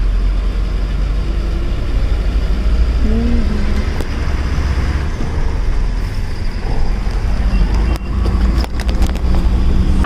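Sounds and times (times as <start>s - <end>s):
diesel truck engine rumbling: 0.0s - 10.0s
road noise: 0.0s - 10.0s.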